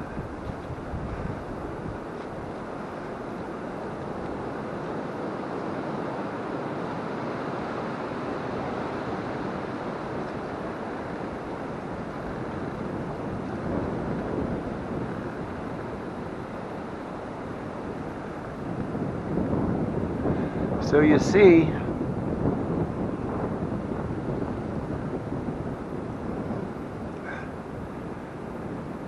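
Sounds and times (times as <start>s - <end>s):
wind rushing through trees: 0.0s - 29.0s.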